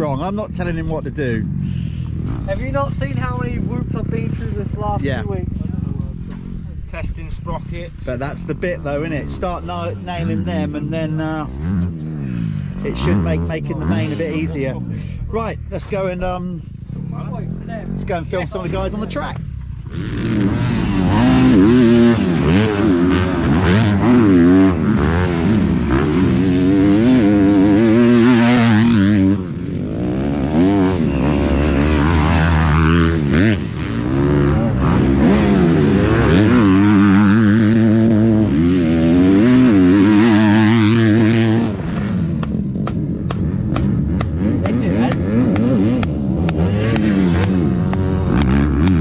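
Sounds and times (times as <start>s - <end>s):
motocross bike engine revving: 0.0s - 49.0s.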